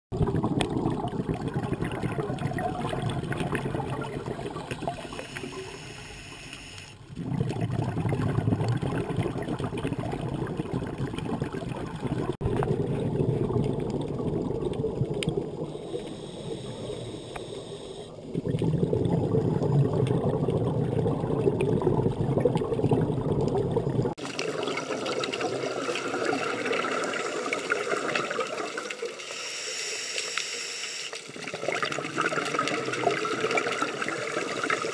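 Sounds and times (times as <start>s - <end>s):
underwater regulator bubbles: 0.1s - 29.1s, 31.2s - 34.9s.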